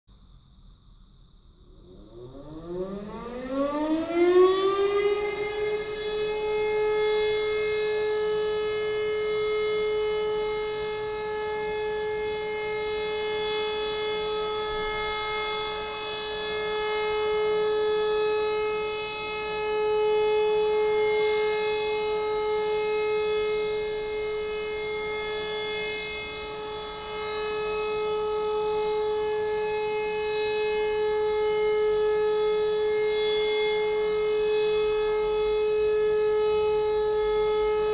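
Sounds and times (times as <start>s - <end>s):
civil defence siren steady tone: 0.1s - 37.9s.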